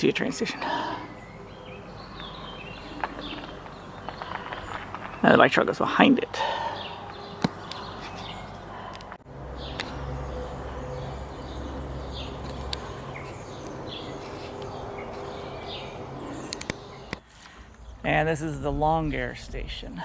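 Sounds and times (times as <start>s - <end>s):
birds chirping: 0.0s - 17.2s.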